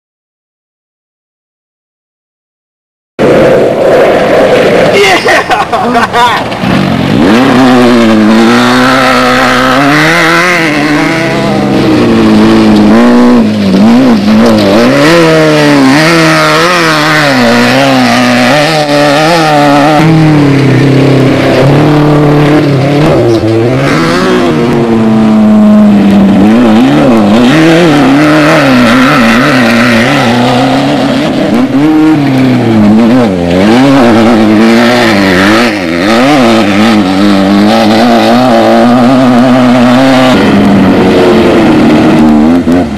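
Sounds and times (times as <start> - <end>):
off-road vehicle engine revving: 4.9 - 42.9.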